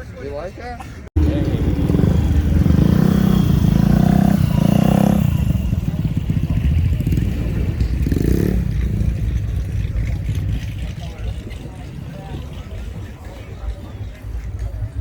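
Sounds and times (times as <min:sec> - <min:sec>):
vehicle engine revving: 0:01.2 - 0:13.2.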